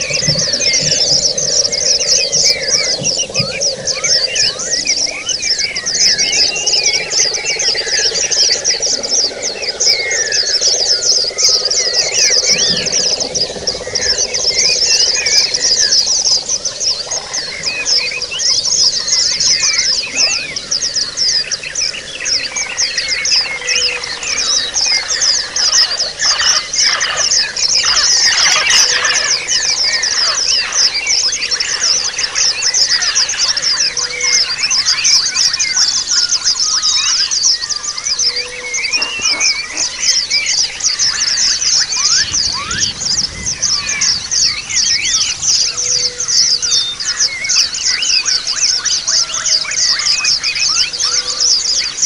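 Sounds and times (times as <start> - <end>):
flock of birds chirping: 0.0 - 52.0.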